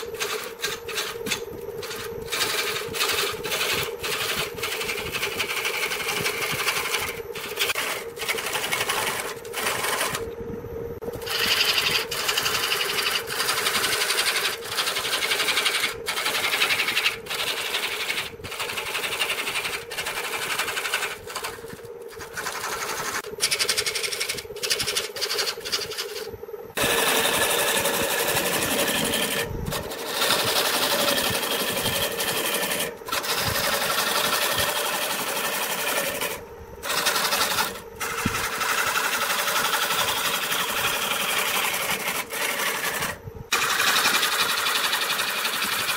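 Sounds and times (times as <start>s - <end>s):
lathe tool chattering on wood: 0.0s - 10.2s, 11.3s - 45.9s
lathe motor hum: 0.0s - 45.9s.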